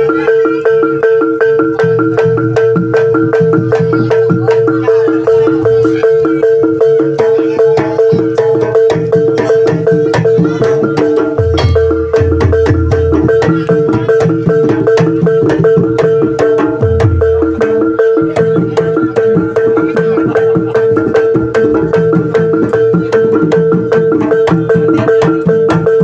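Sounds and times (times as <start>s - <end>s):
steady held tone: 0.0s - 26.0s
tuned mallet percussion: 0.0s - 26.0s.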